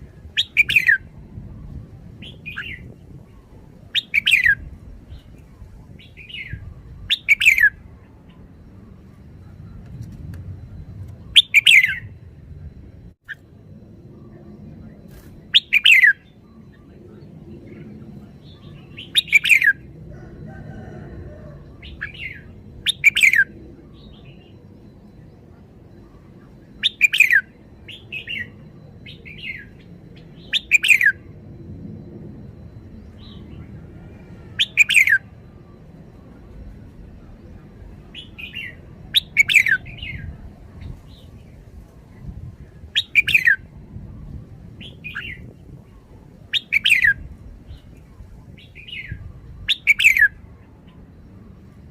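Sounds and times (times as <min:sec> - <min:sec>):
bird singing: 0:00.0 - 0:51.9
low background rumble: 0:00.0 - 0:51.9.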